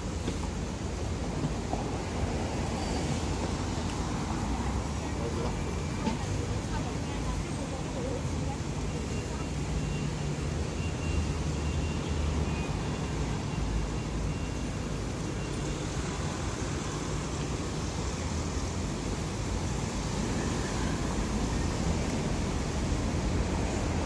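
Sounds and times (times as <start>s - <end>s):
cars passing on road: 0.0s - 24.0s.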